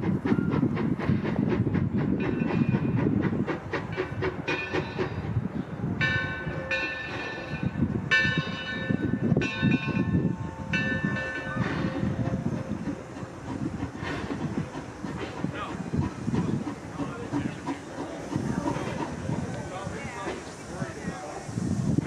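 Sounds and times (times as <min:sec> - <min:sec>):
steam train rumbling: 0:00.0 - 0:22.0.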